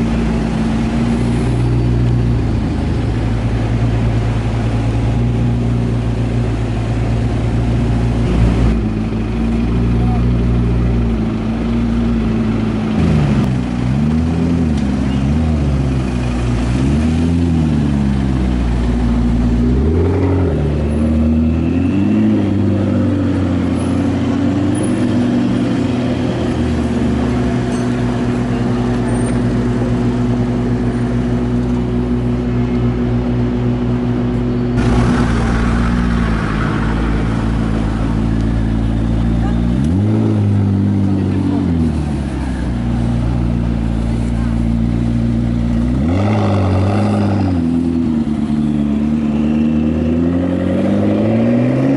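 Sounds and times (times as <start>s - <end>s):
car engine revving and idling: 0.0s - 51.9s.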